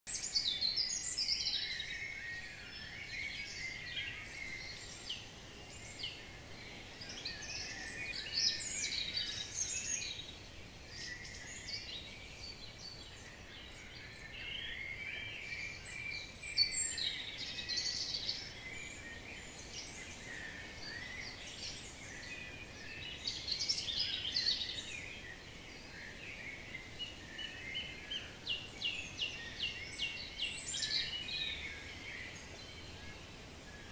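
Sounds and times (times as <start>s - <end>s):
birds chirping and trilling: 0.1s - 33.9s
faint outdoor hiss: 0.1s - 33.9s.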